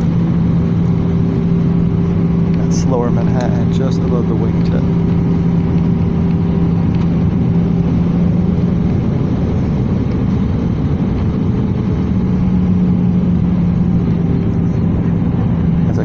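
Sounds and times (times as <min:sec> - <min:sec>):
jet engine roar in cabin: 0:00.0 - 0:16.0
steady low hum: 0:00.0 - 0:16.0.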